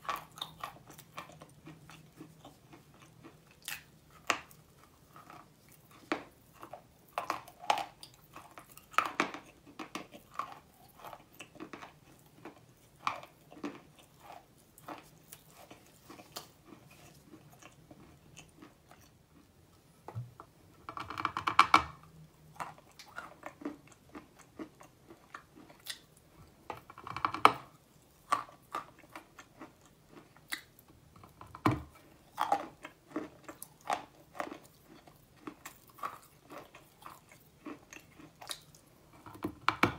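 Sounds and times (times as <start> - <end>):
chewing chalk crunches: 0.0 - 19.5, 22.5 - 39.9.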